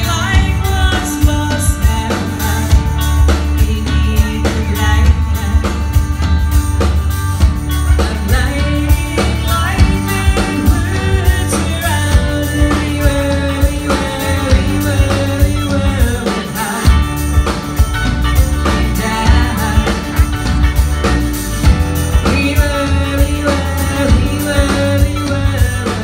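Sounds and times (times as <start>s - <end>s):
woman singing: 0.0s - 6.5s, 7.8s - 17.6s, 18.4s - 20.6s, 22.1s - 26.0s
acoustic guitar: 0.0s - 26.0s
drum kit: 0.0s - 26.0s
electric bass: 0.0s - 26.0s
keyboards: 0.0s - 26.0s.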